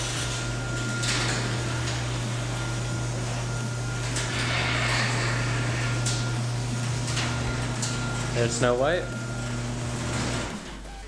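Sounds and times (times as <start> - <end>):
garage door opener motor hum: 0.0 - 11.0.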